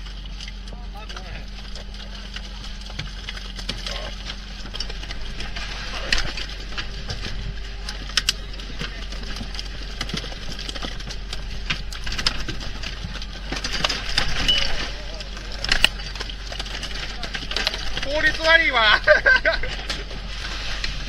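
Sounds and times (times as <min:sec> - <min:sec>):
boat engine drone: 0:00.0 - 0:21.0.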